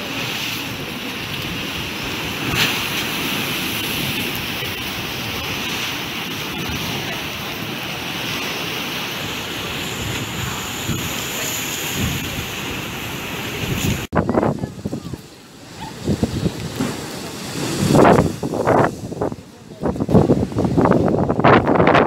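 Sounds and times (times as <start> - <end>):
surf breaking on concrete: 0.0 - 14.1, 16.0 - 21.2
wind buffeting microphone: 0.2 - 22.0.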